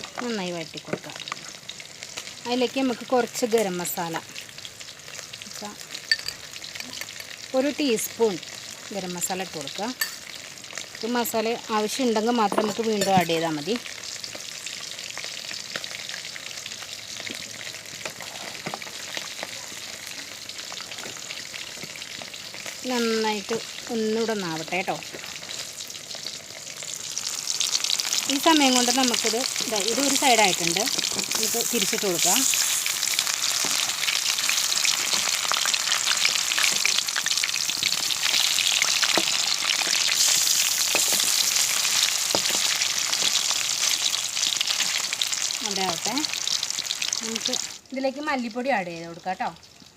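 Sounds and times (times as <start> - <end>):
food sizzling in oil: 0.0 - 49.9.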